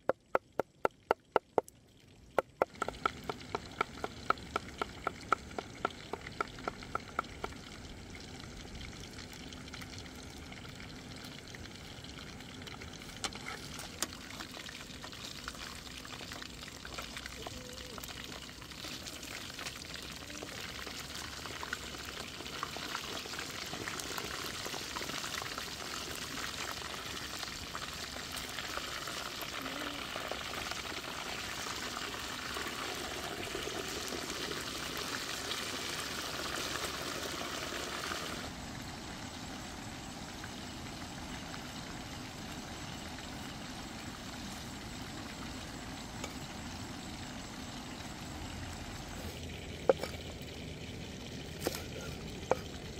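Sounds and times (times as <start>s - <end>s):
fish deep-frying in oil: 0.0s - 52.9s.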